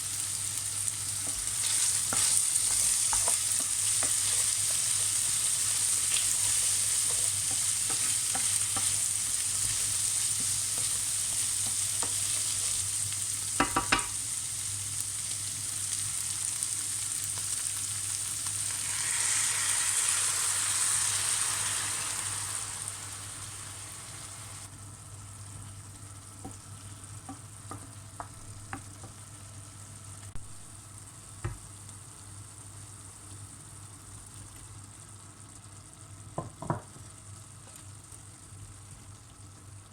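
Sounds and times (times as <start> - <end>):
food sizzling in oil: 0.0 - 39.8.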